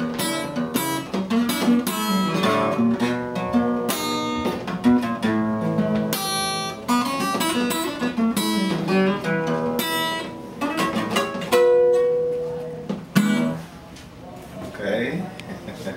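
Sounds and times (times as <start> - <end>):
blues acoustic guitar: 0.0 - 14.3.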